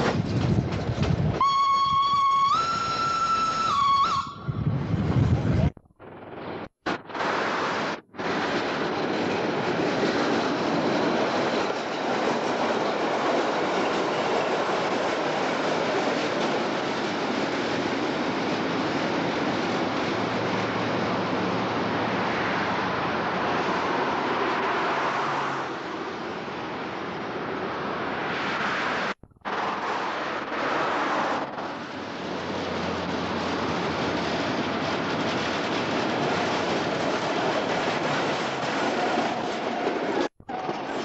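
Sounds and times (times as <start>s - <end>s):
tram rumbling along rails: 0.0s - 41.0s.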